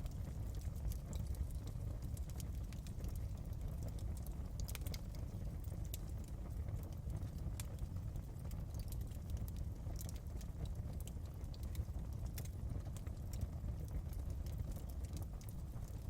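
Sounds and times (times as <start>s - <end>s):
low rumble of fire: 0.0s - 16.0s
wood fire crackling: 0.0s - 16.0s.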